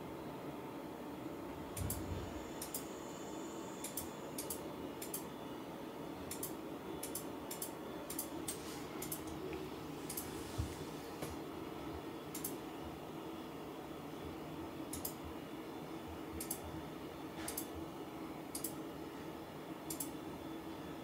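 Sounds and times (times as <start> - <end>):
faint room hum: 0.0 - 21.0.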